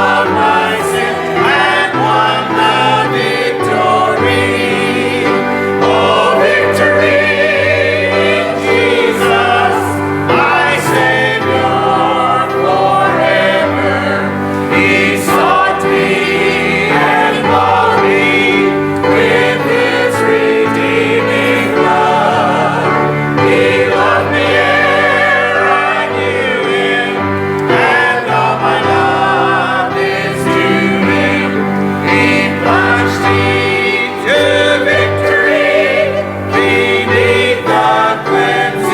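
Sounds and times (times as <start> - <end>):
choir singing a gospel hymn: 0.0 - 38.9.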